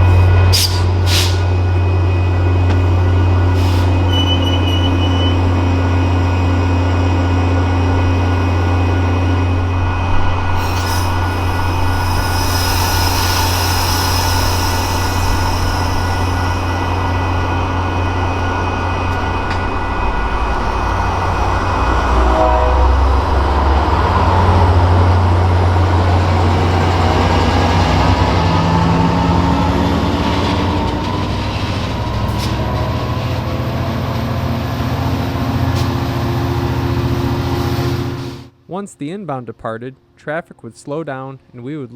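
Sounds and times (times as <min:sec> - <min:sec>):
train rail noise: 0:00.0 - 0:38.6
diesel locomotive engine drone: 0:00.0 - 0:38.7.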